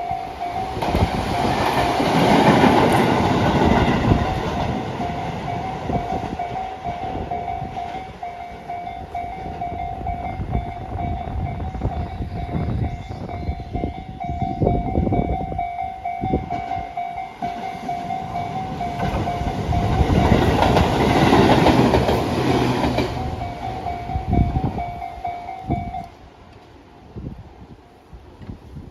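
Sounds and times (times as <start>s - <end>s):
train wheels clacking on rails: 0.0s - 26.2s
railroad crossing bell ringing: 0.0s - 26.4s.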